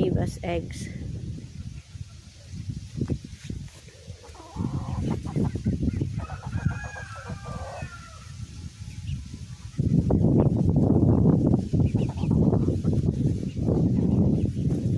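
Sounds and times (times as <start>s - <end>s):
chickens clucking: 1.1s - 14.9s.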